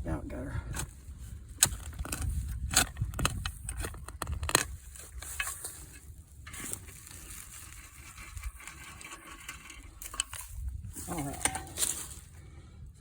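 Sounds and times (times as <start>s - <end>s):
soil and leaves crunching: 0.6s - 12.6s.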